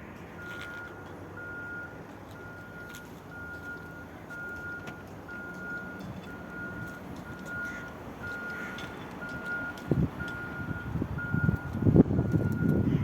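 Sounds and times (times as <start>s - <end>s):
low engine hum: 0.0s - 13.0s
car warning chime beeping: 0.4s - 12.9s.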